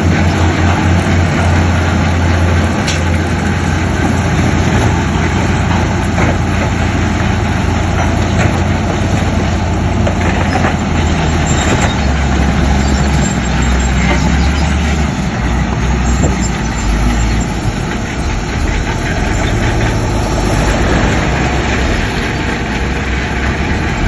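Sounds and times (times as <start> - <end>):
heavy diesel machinery engine hum: 0.0 - 24.0.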